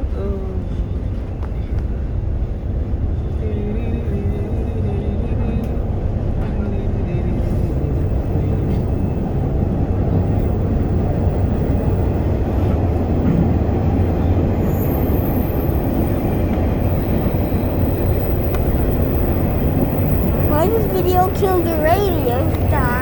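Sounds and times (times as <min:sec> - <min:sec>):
subway wheels rumbling on rails: 0:00.0 - 0:23.0.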